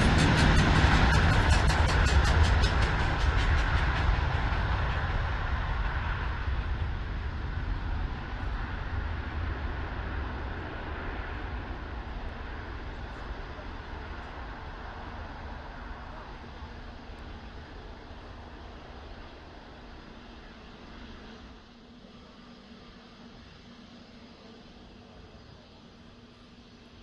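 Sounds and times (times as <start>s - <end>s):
jet airliner engines rumbling: 0.0s - 27.0s.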